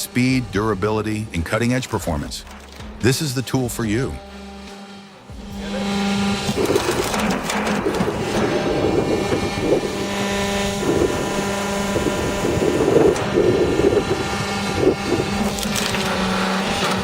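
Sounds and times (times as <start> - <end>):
wood splitter engine running: 0.0 - 17.0.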